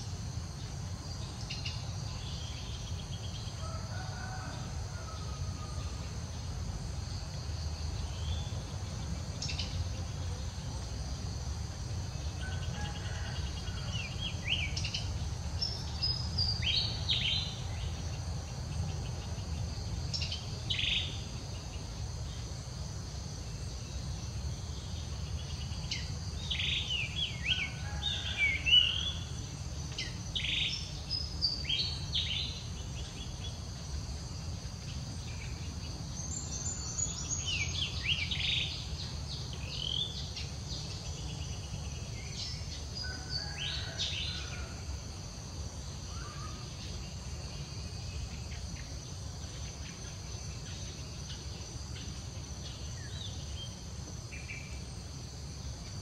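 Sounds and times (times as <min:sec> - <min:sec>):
faint insect drone: 0:00.0 - 0:56.0.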